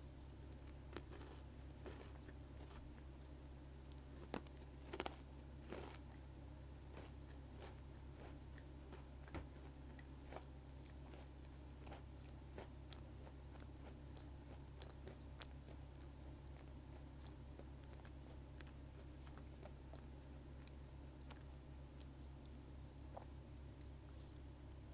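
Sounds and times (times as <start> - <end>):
biscuit sticks being chewed: 0.5 - 22.2, 23.0 - 24.9.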